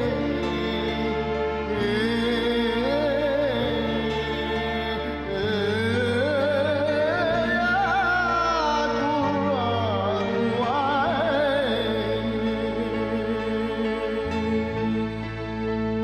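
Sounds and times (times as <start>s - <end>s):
solo voice chanting melismatically: 0.0s - 15.3s
sustained instrumental accompaniment: 0.0s - 16.0s.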